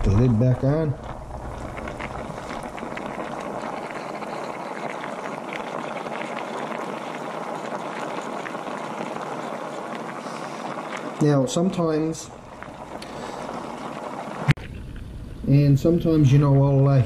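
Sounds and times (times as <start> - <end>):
food sizzling in a wok: 1.1 - 15.3.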